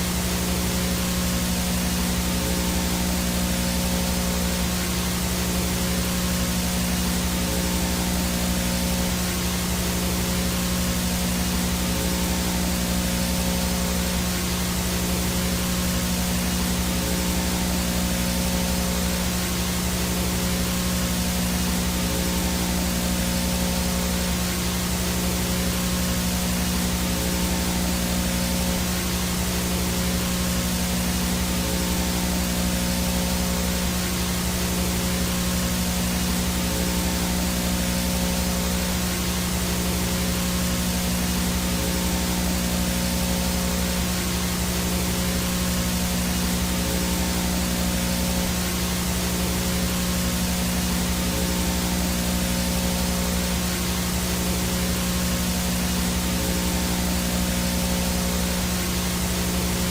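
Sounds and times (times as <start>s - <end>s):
low buzzing hum: 0.0s - 59.9s
static hiss: 0.0s - 59.9s.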